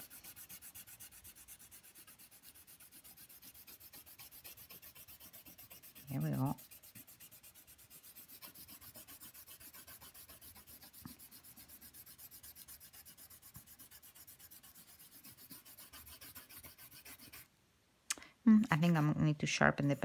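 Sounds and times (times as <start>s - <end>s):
pencil scratching on paper: 0.0s - 17.5s, 18.8s - 20.0s.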